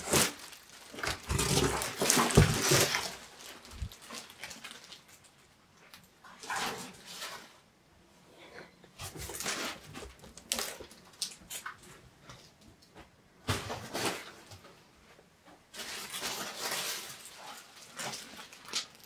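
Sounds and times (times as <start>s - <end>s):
cardboard and polystyrene rustling: 0.0s - 7.7s, 9.0s - 12.0s, 13.1s - 19.0s.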